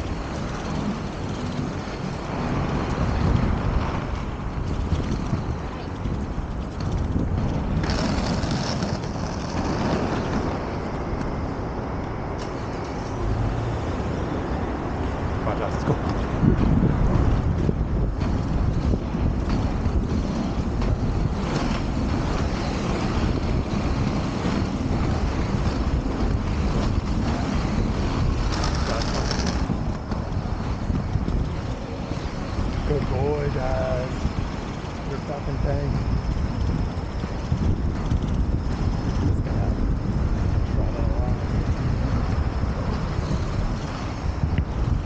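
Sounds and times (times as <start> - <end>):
skate wheels rolling on asphalt: 0.0 - 45.0
wind buffeting microphone: 0.0 - 45.0.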